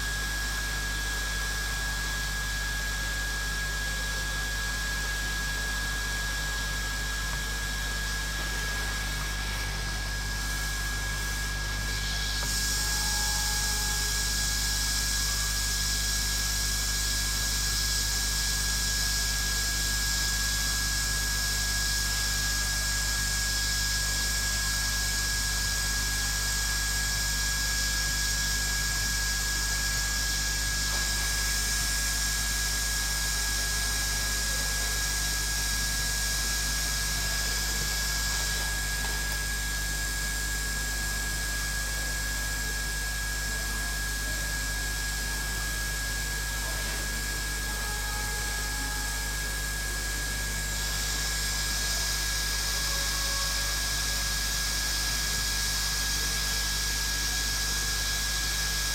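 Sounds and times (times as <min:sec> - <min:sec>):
thin high whine: 0:00.0 - 0:58.9.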